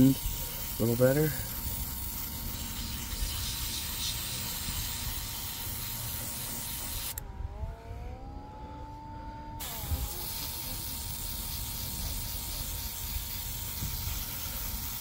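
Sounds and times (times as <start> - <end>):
airbrush spraying hiss: 0.0 - 7.2, 9.6 - 15.0
small compressor whine: 0.0 - 15.0.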